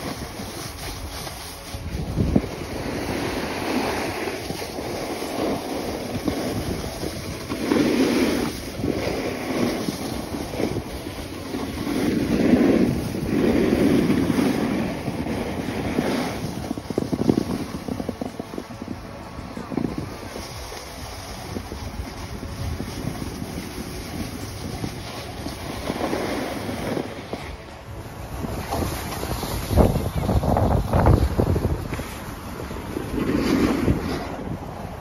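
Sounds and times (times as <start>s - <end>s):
skis sliding over packed snow: 0.0s - 35.0s
wind on microphone: 0.0s - 35.0s.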